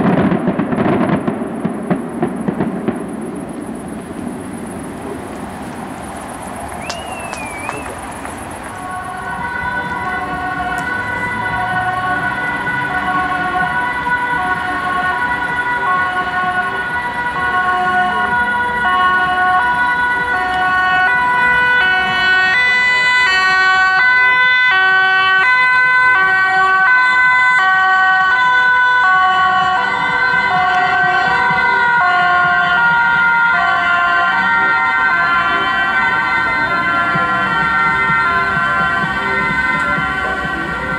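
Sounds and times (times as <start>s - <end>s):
two-tone emergency sirens: 0.0s - 40.9s.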